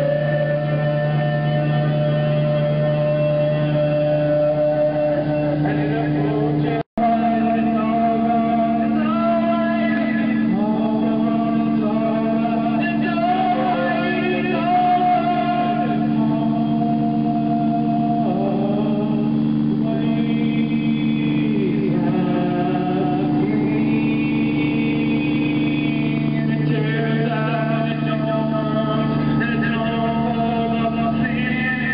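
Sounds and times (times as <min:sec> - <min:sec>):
person singing: 0:00.0 - 0:31.9
steady low hum: 0:00.0 - 0:31.9.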